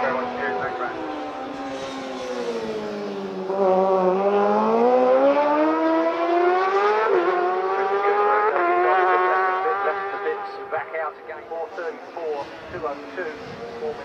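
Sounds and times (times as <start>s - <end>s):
racing motorcycle engine revving: 0.0s - 14.0s.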